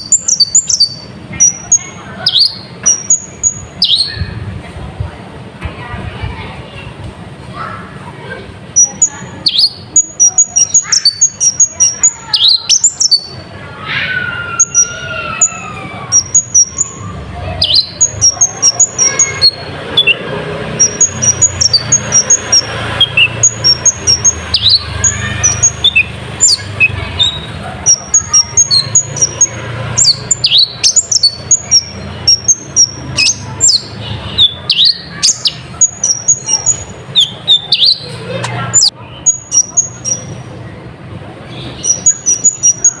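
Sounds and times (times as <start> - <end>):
sunbird chirping song: 0.0 - 4.4, 8.8 - 40.5, 41.5 - 43.0.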